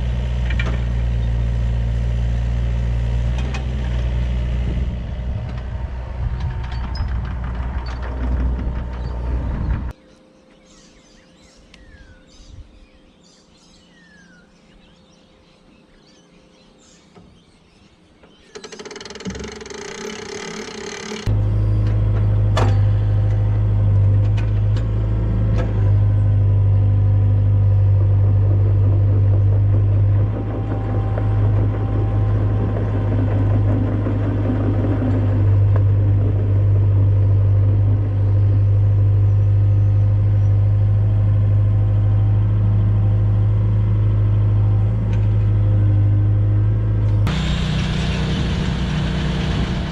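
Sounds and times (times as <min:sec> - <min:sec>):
heavy engine droning: 0:00.0 - 0:10.0, 0:18.6 - 0:49.9.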